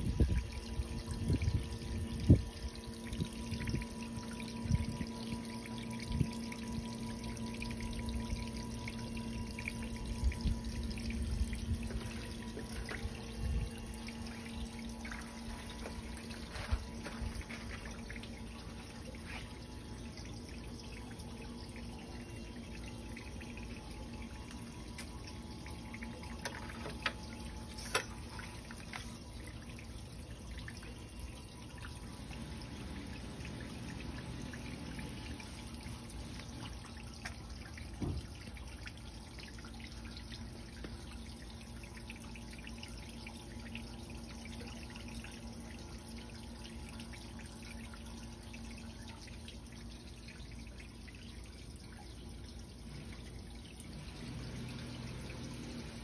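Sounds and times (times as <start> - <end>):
faint low hum: 0.0 - 56.0
water trickling over stones: 0.0 - 56.0.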